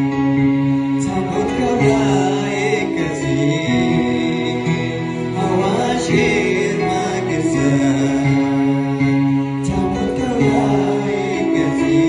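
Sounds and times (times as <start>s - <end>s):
backing track of held chords: 0.0s - 12.0s
man singing into a microphone: 0.9s - 12.0s.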